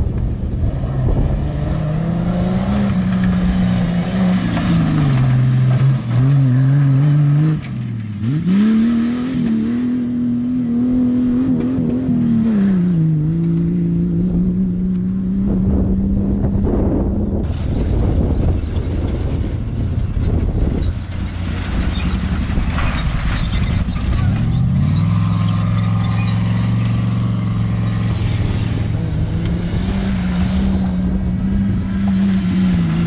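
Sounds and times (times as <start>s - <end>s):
race vehicle engine revving: 0.0s - 33.0s.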